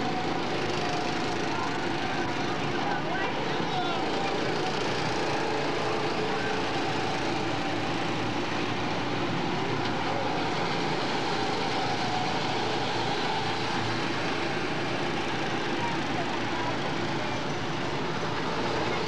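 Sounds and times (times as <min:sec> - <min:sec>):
go-kart engines racing past: 0:00.0 - 0:19.0.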